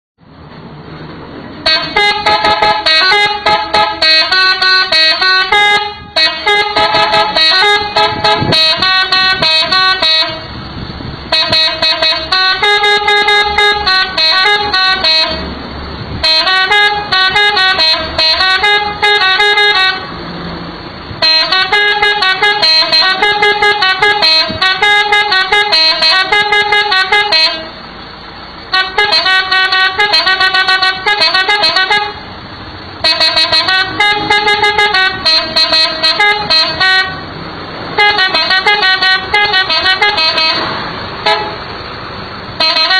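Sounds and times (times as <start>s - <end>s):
air horn playing quick melodies: 1.6s - 10.5s, 11.3s - 15.5s, 16.2s - 20.1s, 21.2s - 27.7s, 28.7s - 32.2s, 33.0s - 37.2s, 38.0s - 41.6s, 42.6s - 42.9s.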